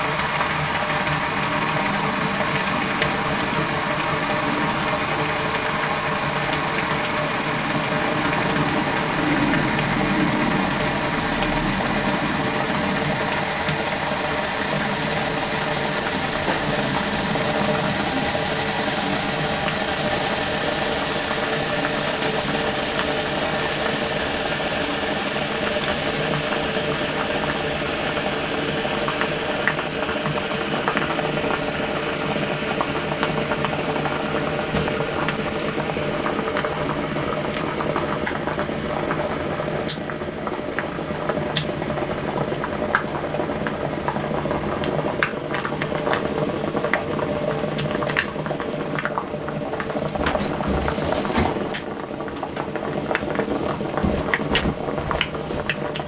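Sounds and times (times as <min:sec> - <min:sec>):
bubbles popping and crackling: 0:00.0 - 0:56.0
steady hum: 0:00.0 - 0:56.0
water boiling with rushing bubbles: 0:00.0 - 0:56.0.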